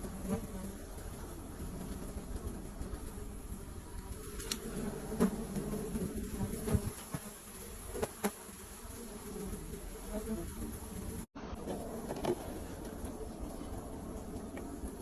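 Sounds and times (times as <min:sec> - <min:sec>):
bees buzzing around a hive: 0:00.0 - 0:15.0.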